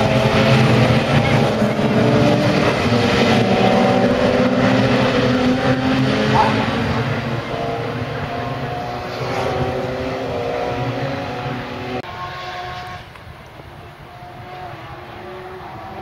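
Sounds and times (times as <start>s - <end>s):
single racing car passing: 0.0s - 13.2s, 14.0s - 16.0s
racing car engines passing: 0.0s - 16.0s.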